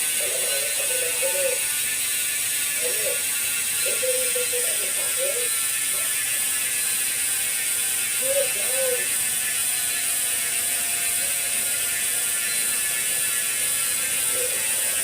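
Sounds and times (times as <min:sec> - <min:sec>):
bicycle freehub ratchet clicking: 0:00.0 - 0:15.0.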